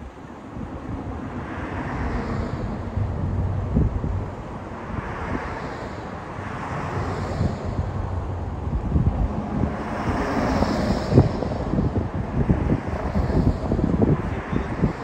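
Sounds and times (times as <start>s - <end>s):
vehicle engines running: 0.0s - 15.0s
wind buffeting microphone: 0.0s - 15.0s.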